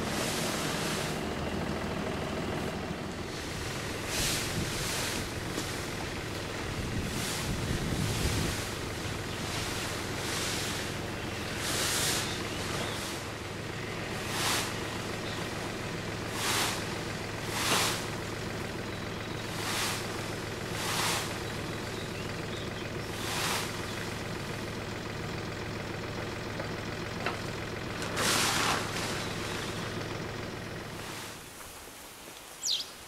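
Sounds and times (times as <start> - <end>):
steady low hum: 0.0 - 32.2.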